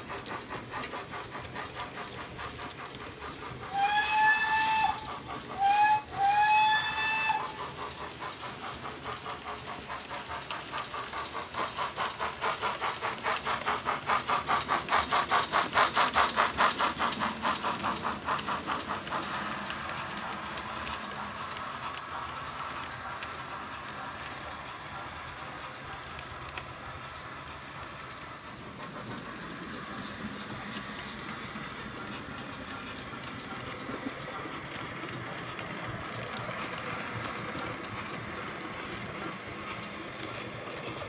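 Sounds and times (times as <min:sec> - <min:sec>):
model coaches rolling on track: 0:00.0 - 0:41.0
model steam locomotive chuffs: 0:00.0 - 0:41.0.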